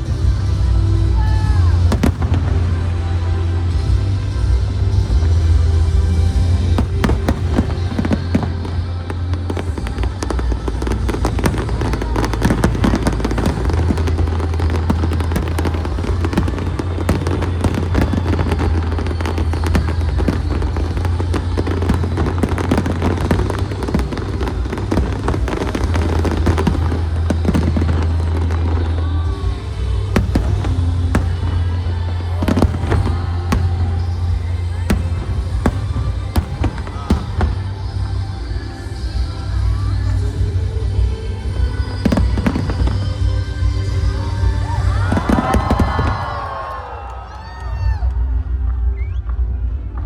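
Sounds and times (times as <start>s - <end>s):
fireworks bursting and crackling: 0.0s - 50.0s
loud show music with heavy bass: 0.0s - 50.0s.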